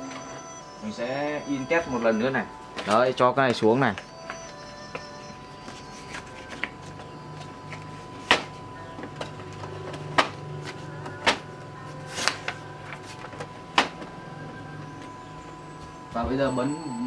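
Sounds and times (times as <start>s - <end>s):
printer motor hum: 0.0s - 17.0s.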